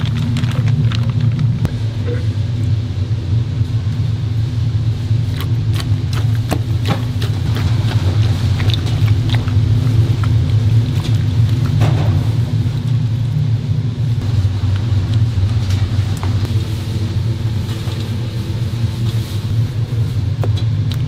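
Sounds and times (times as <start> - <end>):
low machine rumble: 0.0 - 21.0.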